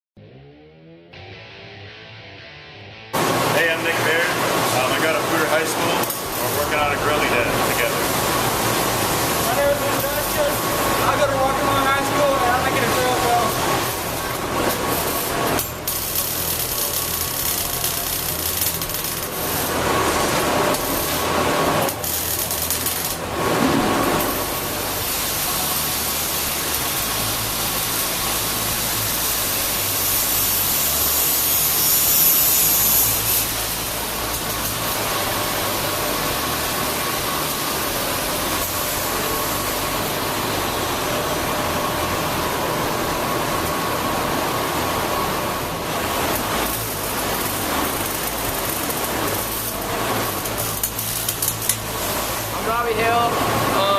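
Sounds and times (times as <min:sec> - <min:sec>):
machine buzzing hiss: 0:03.2 - 0:53.9.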